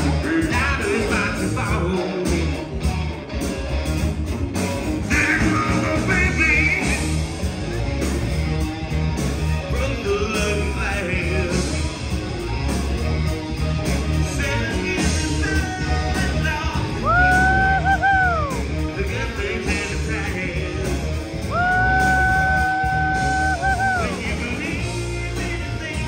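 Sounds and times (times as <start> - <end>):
rock band playing live: 0.0 - 26.0
wavering lead guitar line: 0.0 - 26.0.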